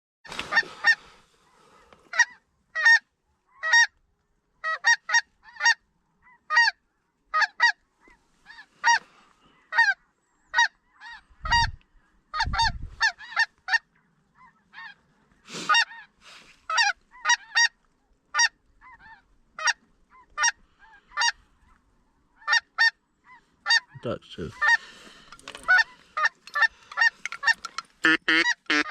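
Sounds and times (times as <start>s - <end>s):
geese honking: 0.3s - 4.0s, 4.6s - 11.7s, 12.3s - 21.8s, 22.4s - 28.9s.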